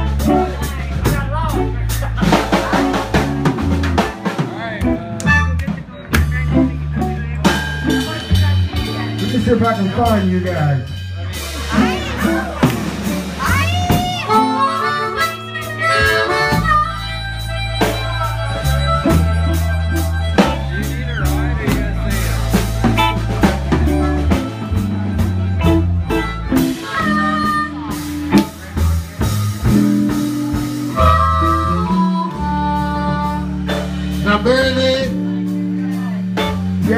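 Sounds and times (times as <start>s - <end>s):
harmonica bending notes: 0.0s - 9.4s, 10.7s - 36.9s
blues band playing: 0.0s - 36.9s.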